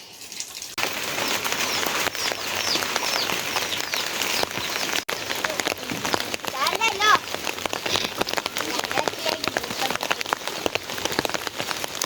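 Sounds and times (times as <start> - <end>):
rain pattering and dripping: 0.0 - 12.0
bird chirping: 1.1 - 11.6.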